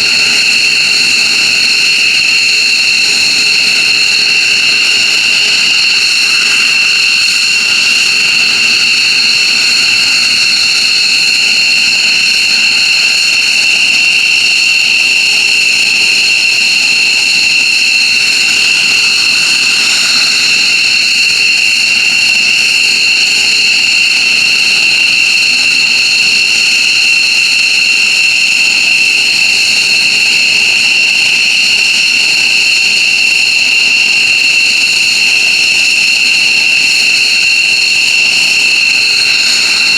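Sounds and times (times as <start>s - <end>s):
jet engines whining and roaring: 0.0s - 39.9s.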